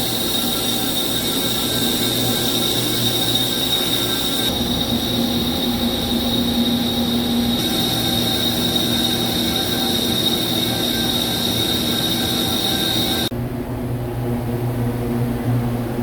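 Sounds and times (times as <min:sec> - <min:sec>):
cnc machine cutting metal: 0:00.0 - 0:13.3
high even whine: 0:00.0 - 0:13.4
low hum: 0:00.0 - 0:16.0.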